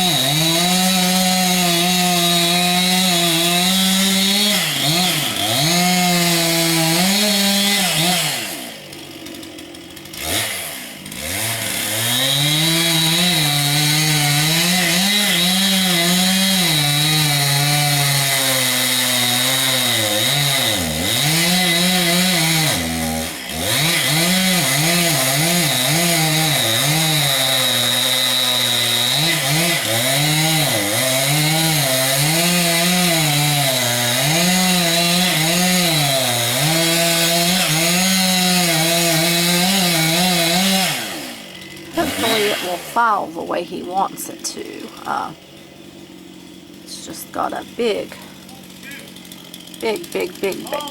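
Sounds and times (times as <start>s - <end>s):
chainsaw cutting into wood: 0.0s - 50.9s.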